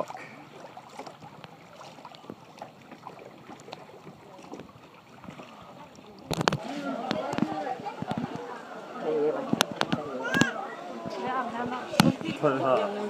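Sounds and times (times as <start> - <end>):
small splashes and ticks: 0.0 - 8.6, 9.4 - 12.4
river water lapping: 0.0 - 13.0.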